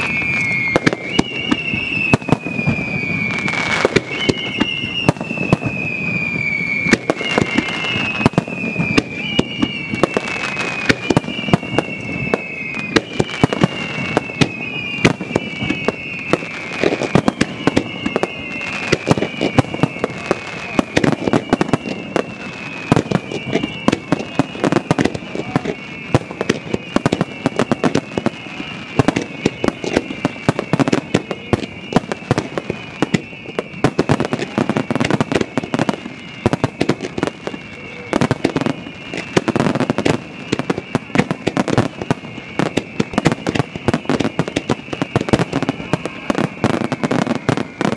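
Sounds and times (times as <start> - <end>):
fireworks bangs: 0.0 - 47.9
fireworks whistles falling in pitch: 0.0 - 47.9.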